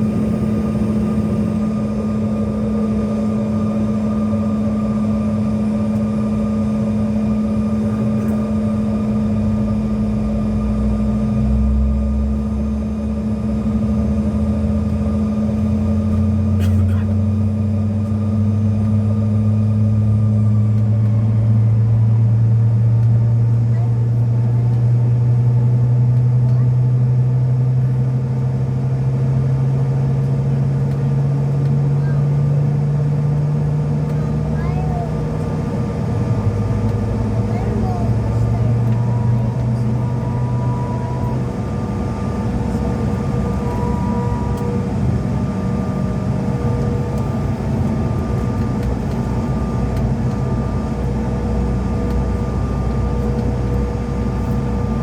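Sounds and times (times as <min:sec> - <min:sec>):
jet cabin engine hum: 0:00.0 - 0:55.0.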